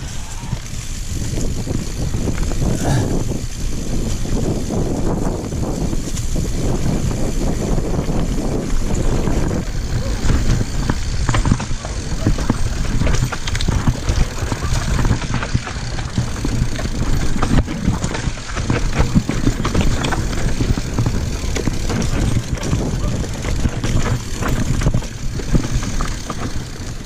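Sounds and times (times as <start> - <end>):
bike rattling over rough ground: 0.0 - 27.0
wind rumble on microphone: 0.0 - 27.0.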